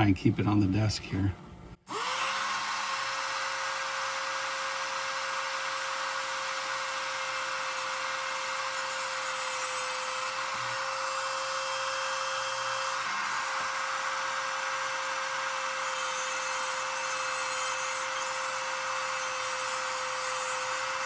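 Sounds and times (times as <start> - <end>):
rotary tool whining: 1.9 - 21.0.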